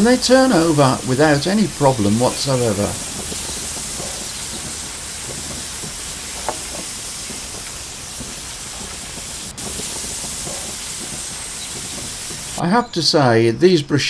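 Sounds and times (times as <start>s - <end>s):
fruit sizzling in bubbling juice: 0.0s - 12.6s.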